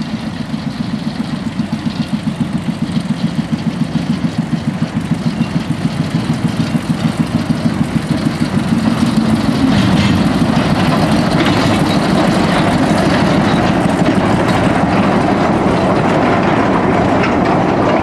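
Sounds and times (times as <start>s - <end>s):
diesel locomotive running: 0.0s - 18.0s
wagons rumbling over rails: 0.0s - 18.0s.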